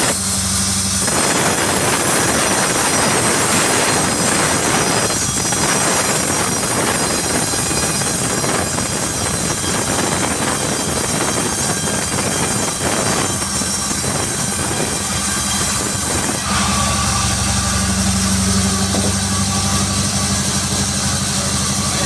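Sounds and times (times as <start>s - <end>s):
saw machinery humming: 0.0s - 22.0s
sawmill saw rasping through log: 0.0s - 22.0s.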